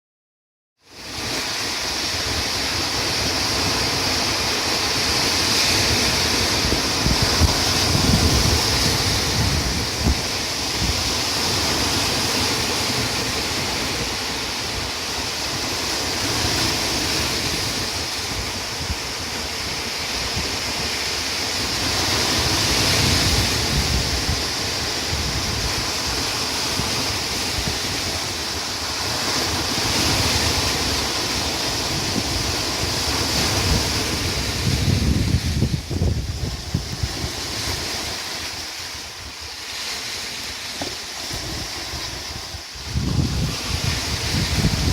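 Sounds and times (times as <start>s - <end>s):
waves washing onto shore: 0.8s - 44.9s
wind buffeting microphone: 2.2s - 39.5s, 41.1s - 44.9s.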